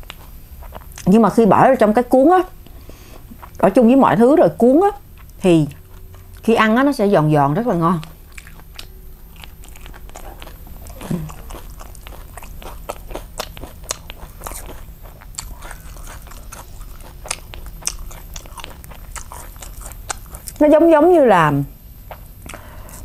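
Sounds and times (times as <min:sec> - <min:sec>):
close-up chewing crunchy food: 0:00.0 - 0:02.0, 0:02.6 - 0:20.7, 0:22.0 - 0:23.0.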